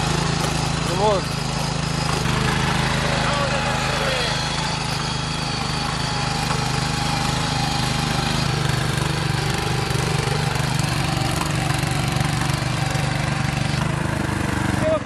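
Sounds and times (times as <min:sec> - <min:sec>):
power tiller engine running: 0:00.0 - 0:15.0.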